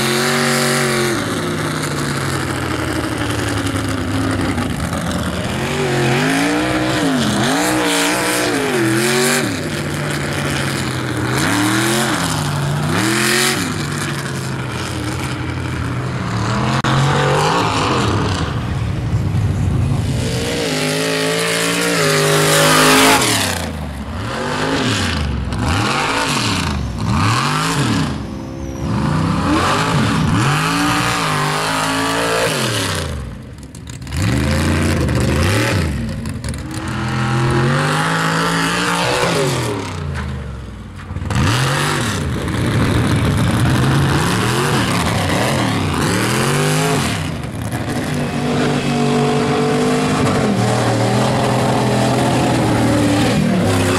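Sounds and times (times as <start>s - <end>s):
truck engines revving hard: 0.0s - 53.9s.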